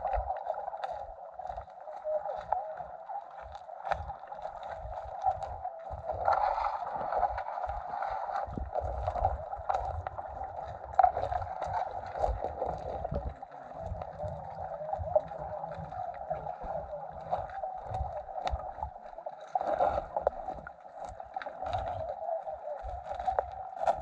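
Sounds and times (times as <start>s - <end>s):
muffled water sloshing: 0.0s - 24.0s.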